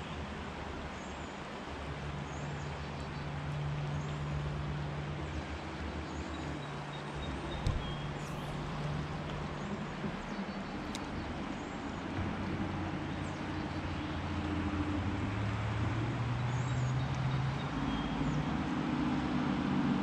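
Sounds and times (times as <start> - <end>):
river rushing: 0.0 - 20.0
traffic engines droning: 0.0 - 20.0.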